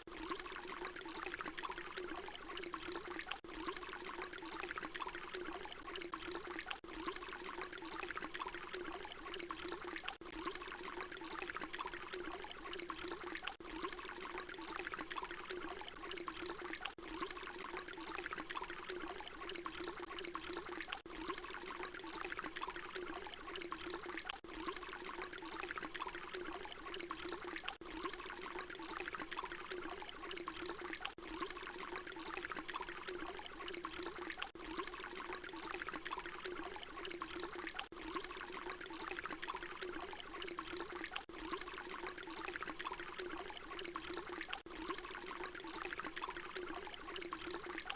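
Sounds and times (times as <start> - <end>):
water pouring: 0.0 - 47.9.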